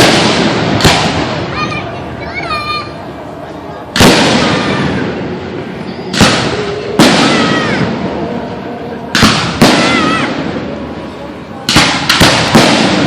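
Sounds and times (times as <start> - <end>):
fireworks booming with echo: 0.0 - 3.0, 3.6 - 13.0.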